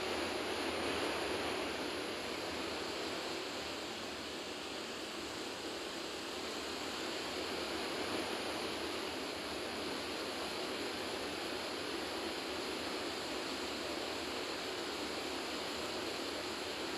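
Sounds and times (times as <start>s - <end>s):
river rushing over waterfalls: 0.0s - 16.9s.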